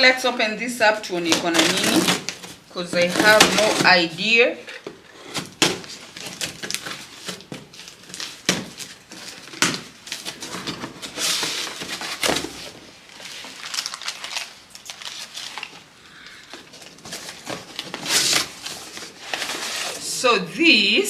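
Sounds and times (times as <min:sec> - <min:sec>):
cardboard rustling and scraping: 0:00.8 - 0:15.9, 0:16.6 - 0:20.1
packing tape tearing: 0:01.1 - 0:04.1, 0:04.7 - 0:20.1.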